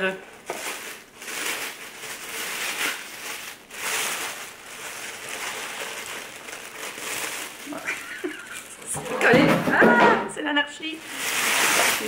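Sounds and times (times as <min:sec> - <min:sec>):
tissue paper rustling: 0:00.0 - 0:09.4, 0:10.9 - 0:12.0.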